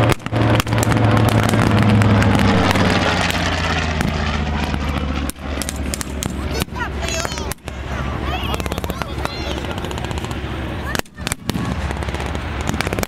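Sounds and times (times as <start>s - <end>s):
propeller plane flying overhead: 0.0s - 13.0s.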